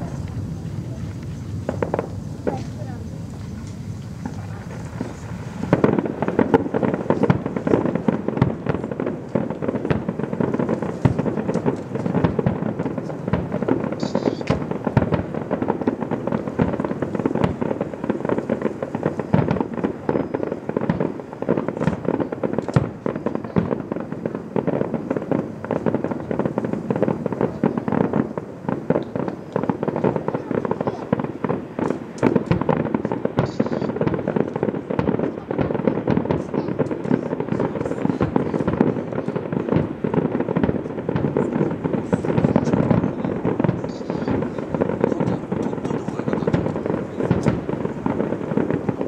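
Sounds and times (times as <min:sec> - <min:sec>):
fireworks bursting and crackling: 0:00.0 - 0:49.0.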